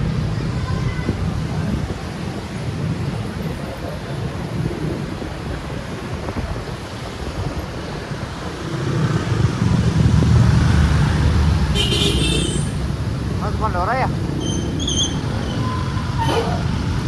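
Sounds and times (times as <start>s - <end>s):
road traffic rumble: 0.0s - 17.0s
wind buffeting microphone: 0.0s - 17.0s.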